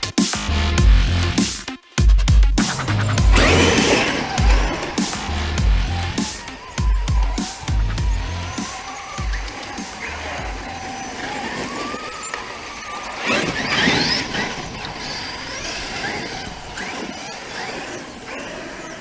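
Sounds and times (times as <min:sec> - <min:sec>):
rc truck motors whining: 0:02.3 - 0:19.0.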